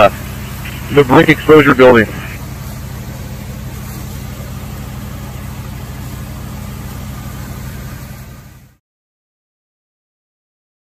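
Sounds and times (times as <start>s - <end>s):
diesel engine running: 0.0s - 8.8s
hiss of noise: 0.0s - 8.8s.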